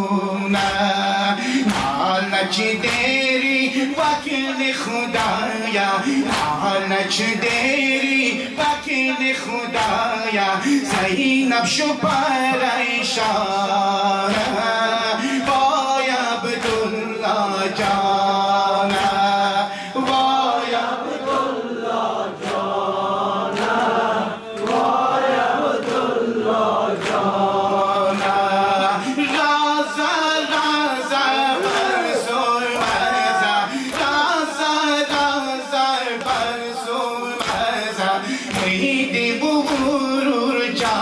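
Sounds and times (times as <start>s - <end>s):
men chanting a lament: 0.0s - 41.0s
rhythmic chest-beating slaps: 0.0s - 41.0s.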